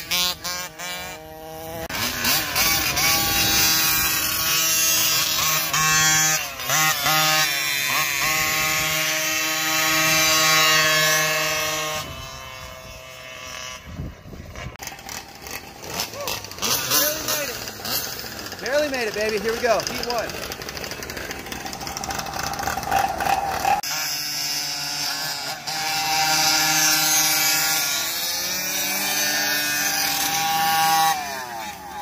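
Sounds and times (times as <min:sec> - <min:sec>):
small two-stroke engine revving: 0:00.0 - 0:32.0.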